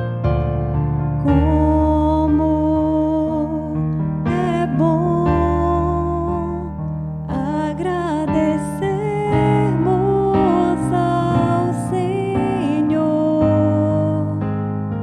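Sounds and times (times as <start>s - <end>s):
piano chords: 0.0s - 15.0s
woman singing psalm: 1.2s - 14.4s.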